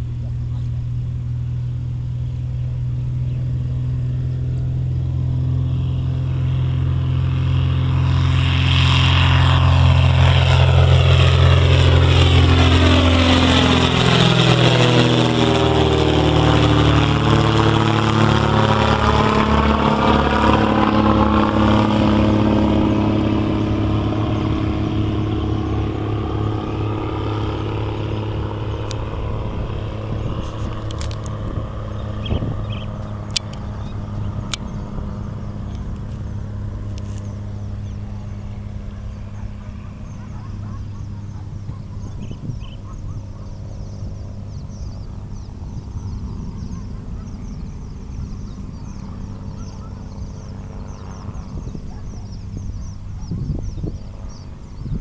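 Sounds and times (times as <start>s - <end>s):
propeller plane flying overhead: 0.0s - 55.0s.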